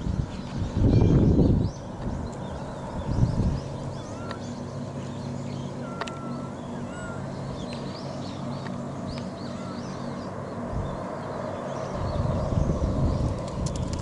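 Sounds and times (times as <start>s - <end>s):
distant hovercraft drone: 0.0s - 14.0s
small birds chirping: 0.0s - 14.0s.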